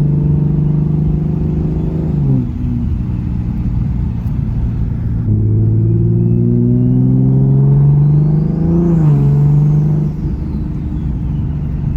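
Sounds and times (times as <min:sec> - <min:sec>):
car exhaust under load: 0:00.0 - 0:11.9.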